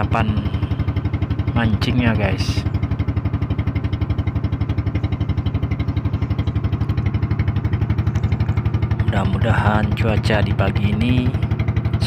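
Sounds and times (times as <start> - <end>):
boat engine putter: 0.0 - 12.0.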